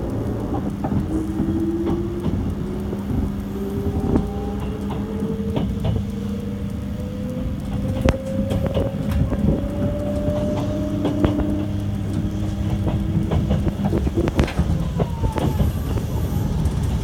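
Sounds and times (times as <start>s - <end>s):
clicks and knocks from wheels: 0.0s - 17.0s
running gear rumble: 0.0s - 17.0s
train motor whine: 0.0s - 17.0s.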